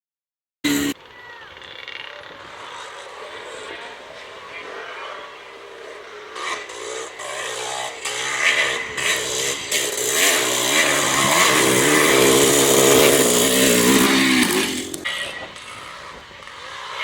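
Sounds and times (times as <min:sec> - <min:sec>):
motocross bike engines revving: 0:00.7 - 0:17.0.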